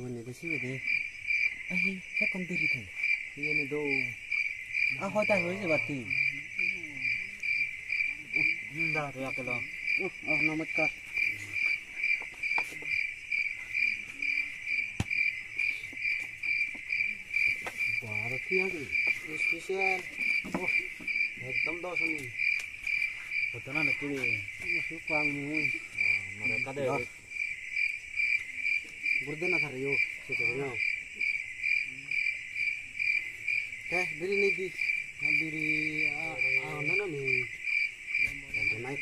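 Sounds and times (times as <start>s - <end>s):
cricket chirping: 0.0s - 39.0s.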